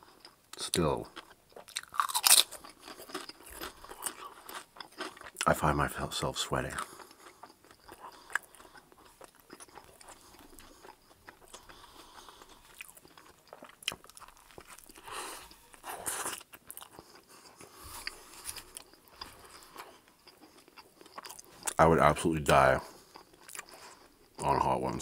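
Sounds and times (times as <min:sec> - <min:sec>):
chewing and mouth sounds: 0:00.0 - 0:05.6, 0:06.6 - 0:24.8.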